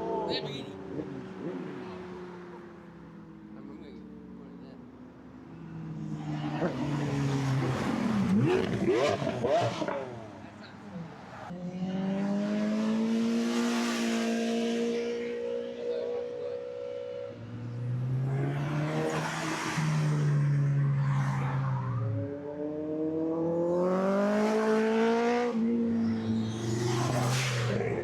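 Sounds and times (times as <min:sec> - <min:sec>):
car engines running hard: 0:00.0 - 0:28.0.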